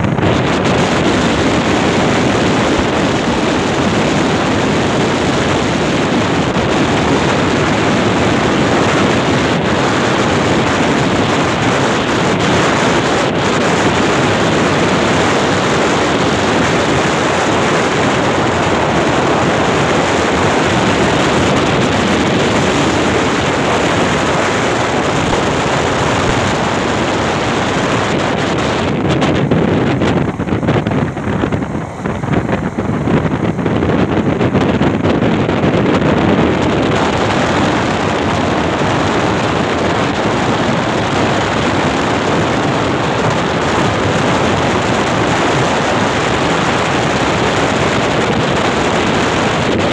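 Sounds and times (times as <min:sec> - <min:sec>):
road and vehicle rumble: 0:00.0 - 0:49.9
wind buffeting microphone: 0:00.0 - 0:49.9.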